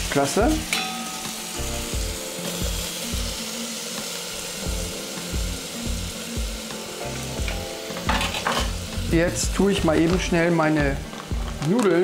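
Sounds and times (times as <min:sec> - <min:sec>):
meat sizzling on a griddle: 0:00.0 - 0:12.0
background music with low beat: 0:00.1 - 0:11.7.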